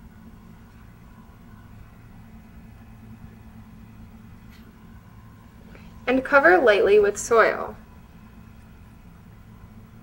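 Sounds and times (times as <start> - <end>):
low room tone hum: 0.0 - 10.0.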